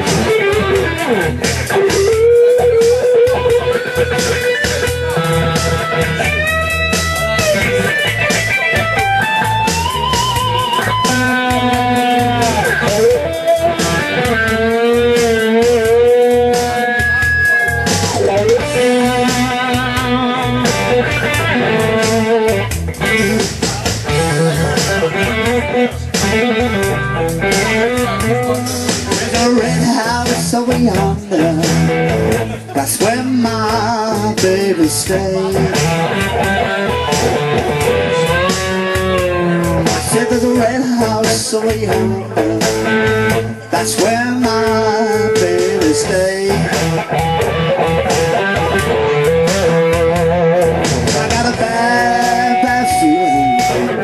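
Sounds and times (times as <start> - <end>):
electric guitar blues: 0.0 - 54.0.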